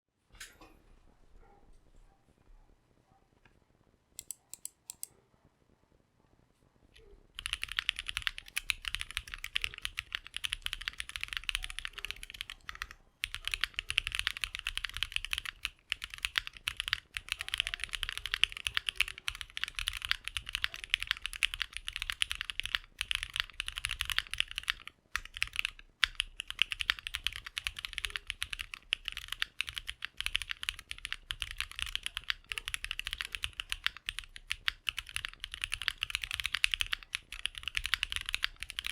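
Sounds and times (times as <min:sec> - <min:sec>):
mechanical keyboard typing: 0:04.2 - 0:05.1, 0:07.0 - 0:38.9.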